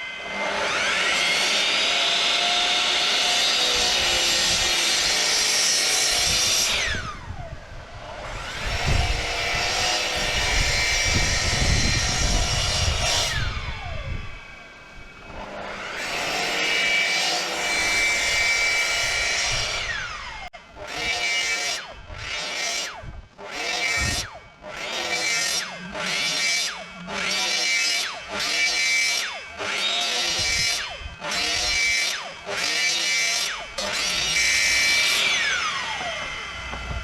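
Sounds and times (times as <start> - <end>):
electric saw cutting timber: 0.0 - 37.0
saw blade winding down: 0.0 - 37.0.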